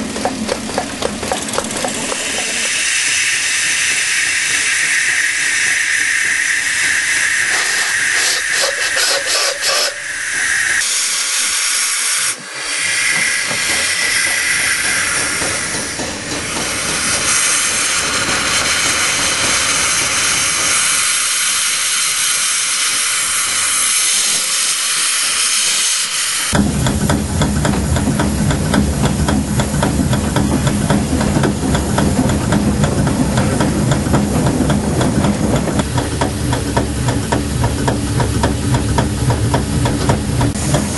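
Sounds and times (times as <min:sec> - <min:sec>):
low pulsing locomotive rumble: 0:00.0 - 0:10.8, 0:13.0 - 0:24.7, 0:26.5 - 0:40.9
steam locomotive hissing: 0:00.0 - 0:40.9.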